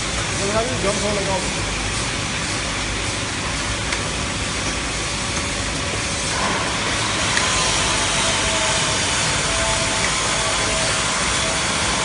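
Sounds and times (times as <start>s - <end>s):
bottle capping machine hum and hiss: 0.0s - 12.0s.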